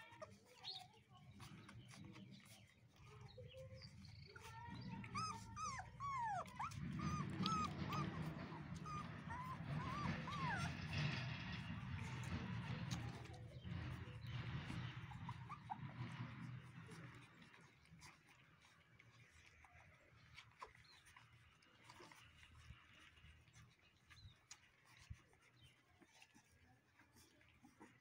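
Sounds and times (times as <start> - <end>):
low steady rumble: 0.0 - 28.0
puppies whimpering and squealing: 0.0 - 28.0.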